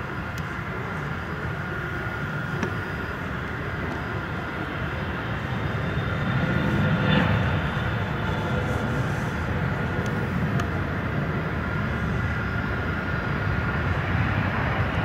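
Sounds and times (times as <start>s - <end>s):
jet engines rumbling with high whine: 0.0s - 15.0s.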